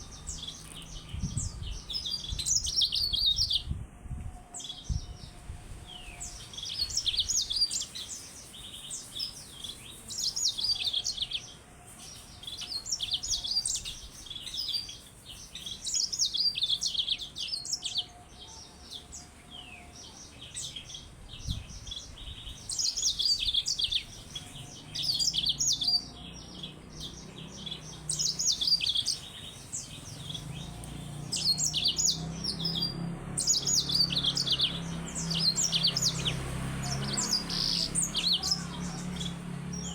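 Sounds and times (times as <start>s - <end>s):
canary singing: 0.0s - 3.8s, 4.5s - 39.9s.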